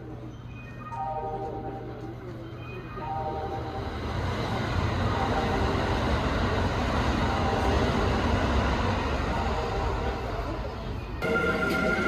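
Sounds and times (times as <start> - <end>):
electric train running on rails: 1.8 - 12.0.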